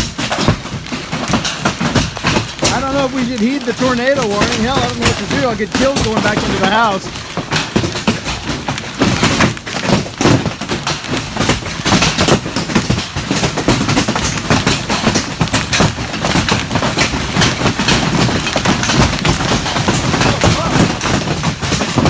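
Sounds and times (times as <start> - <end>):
hail pelting a metal barn: 0.0 - 22.0.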